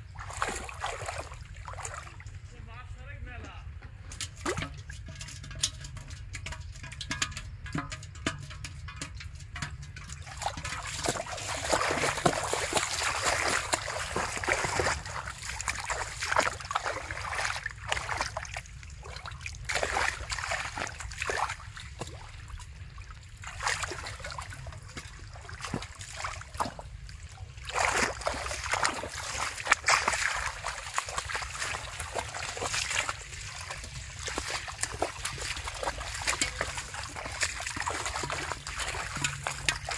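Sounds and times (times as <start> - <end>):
muddy water splashing: 0.0 - 39.9
steady low rumble: 0.0 - 39.9.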